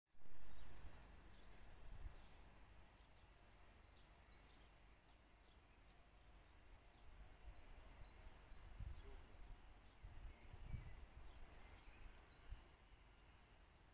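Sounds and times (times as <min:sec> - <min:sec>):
birds chirping: 0:00.4 - 0:13.3.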